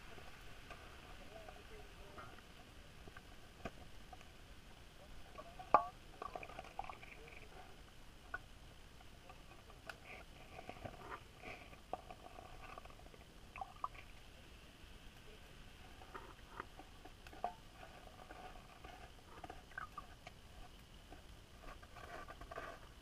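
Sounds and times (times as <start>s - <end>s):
faint underwater clicks: 0.6s - 14.2s, 16.0s - 23.0s.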